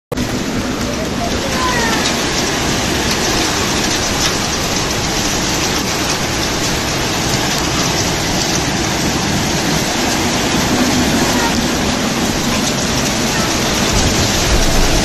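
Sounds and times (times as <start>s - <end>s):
heavy wind-driven rain: 0.1s - 15.0s.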